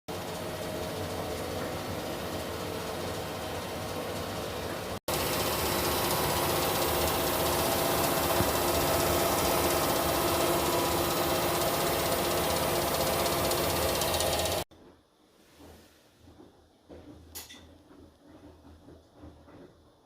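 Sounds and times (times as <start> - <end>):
washing machine running: 0.1 - 20.0.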